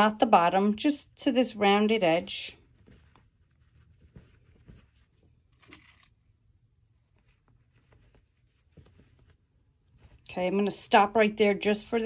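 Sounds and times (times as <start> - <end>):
fabric rustling: 1.6 - 12.0.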